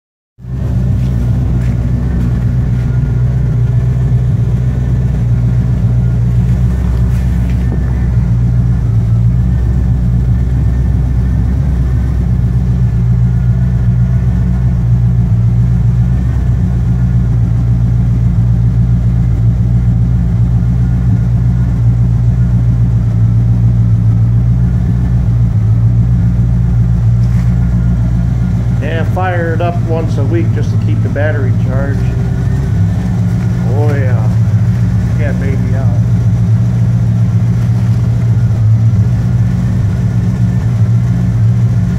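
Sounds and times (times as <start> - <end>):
car engine idling: 0.4 - 41.9.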